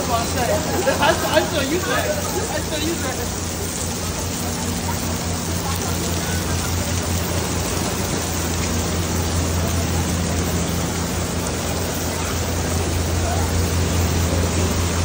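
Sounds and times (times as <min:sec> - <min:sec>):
rain on cobblestones: 0:00.0 - 0:15.0.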